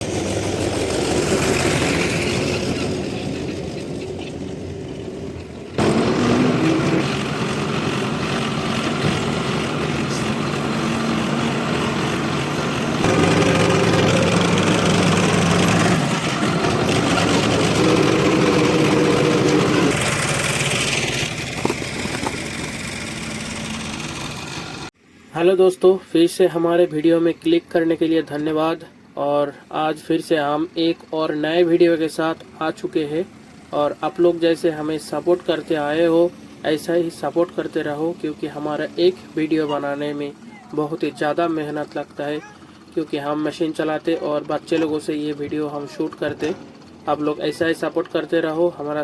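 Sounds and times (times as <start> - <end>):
excavator diesel engine working: 0.0 - 25.2, 27.8 - 49.0.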